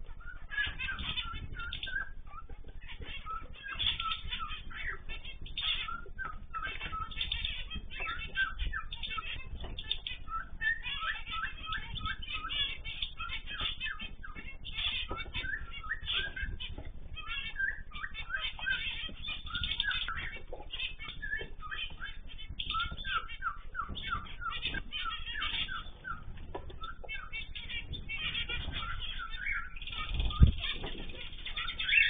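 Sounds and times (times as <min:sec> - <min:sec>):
birds chirping and calling: 0:00.0 - 0:32.0
wings fluttering: 0:00.0 - 0:32.0.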